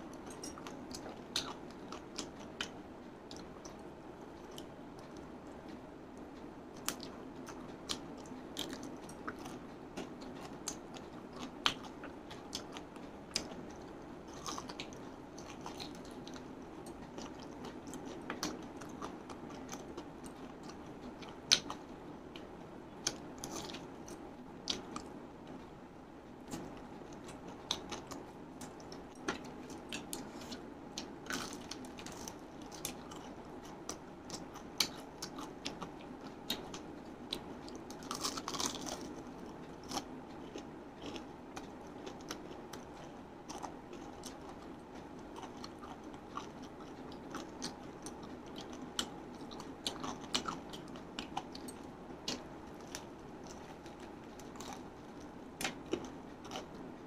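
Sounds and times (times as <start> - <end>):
steady low hum: 0.0 - 57.0
crunchy chewing of fried chicken: 0.1 - 25.8, 26.4 - 57.0.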